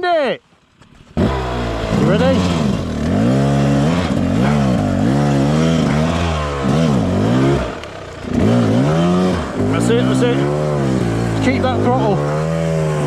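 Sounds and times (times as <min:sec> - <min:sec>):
motorcycle engine revving: 0:00.6 - 0:13.0.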